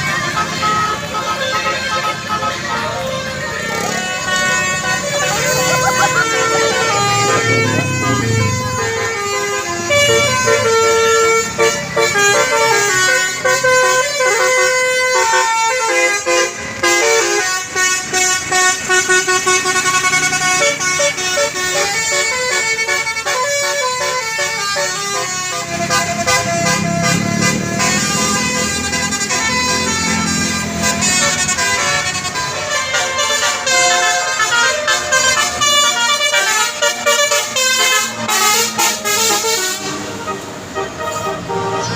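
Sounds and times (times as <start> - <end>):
bus engine: 0.0 - 41.9
multi-trumpet air horn melody: 0.0 - 41.9.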